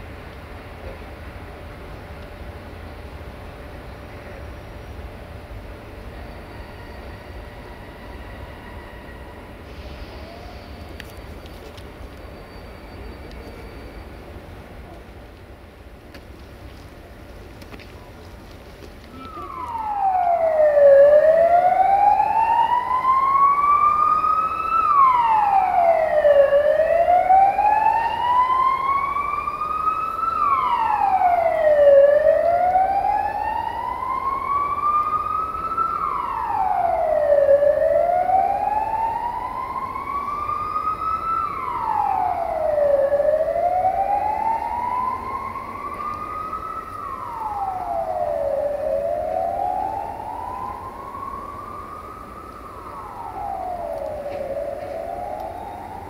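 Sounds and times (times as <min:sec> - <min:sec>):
wailing siren: 0:03.3 - 0:14.9, 0:18.5 - 0:56.0.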